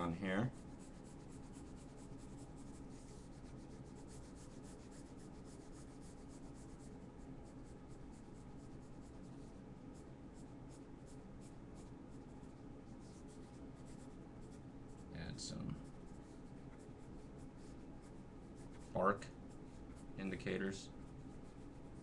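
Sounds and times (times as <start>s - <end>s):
pencil scratching drawing strokes: 0.0s - 15.1s, 15.8s - 22.0s
steady low hum: 0.0s - 22.0s.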